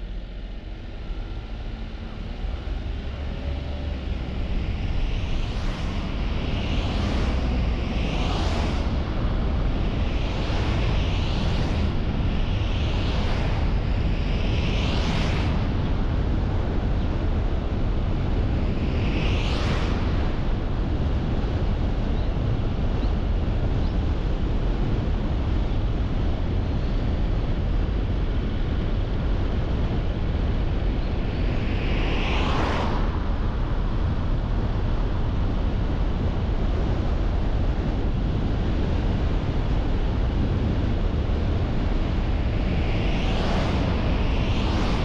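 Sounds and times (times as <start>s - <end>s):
car road and wind noise: 0.0s - 45.0s.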